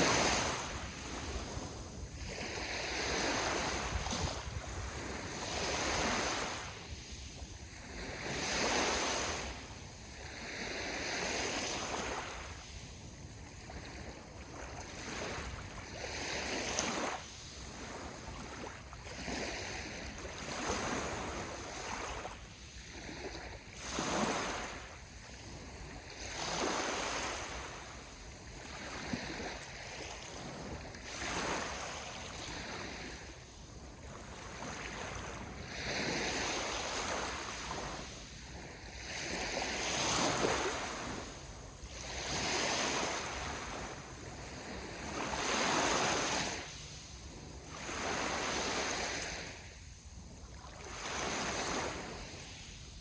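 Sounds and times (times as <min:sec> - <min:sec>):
sea waves washing on shore: 0:00.0 - 0:53.0.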